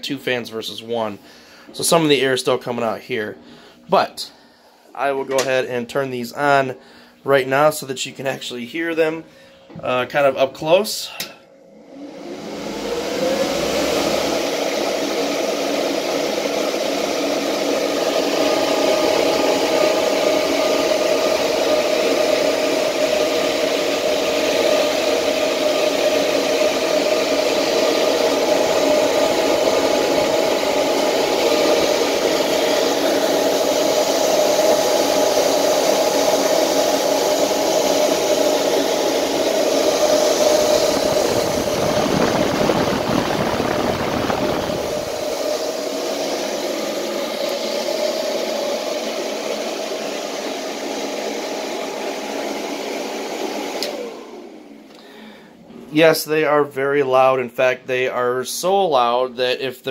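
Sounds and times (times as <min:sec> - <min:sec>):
cooling fans whining: 0:00.0 - 0:57.1.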